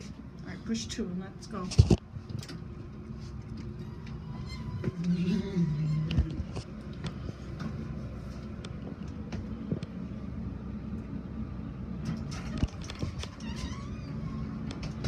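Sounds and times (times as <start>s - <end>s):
elevator hum and rumble: 0.0s - 15.0s.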